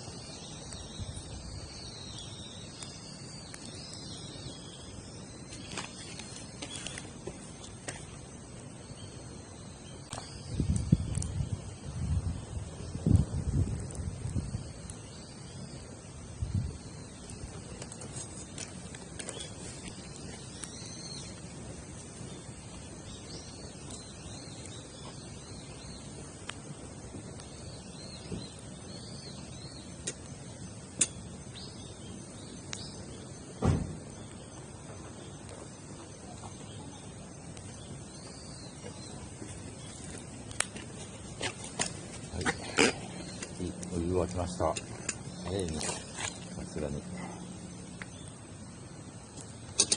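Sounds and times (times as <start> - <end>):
campfire crackling and popping: 0.0 - 49.9
steady outdoor hiss: 0.0 - 49.9.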